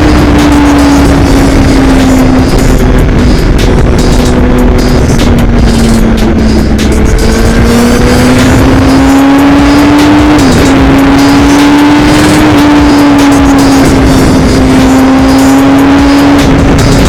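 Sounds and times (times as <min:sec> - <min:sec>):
heavy wind rush: 0:00.0 - 0:17.0
loud exhaust: 0:00.0 - 0:17.0
motorcycle engine under load: 0:00.0 - 0:17.0.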